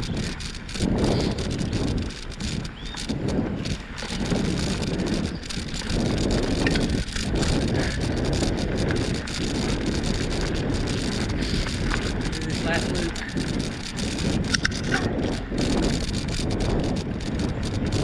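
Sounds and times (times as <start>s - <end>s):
bicycle tyres crunching on dirt: 0.0s - 18.0s
bike clicks and rattles: 0.0s - 18.0s
wind buffeting microphone: 0.0s - 18.0s.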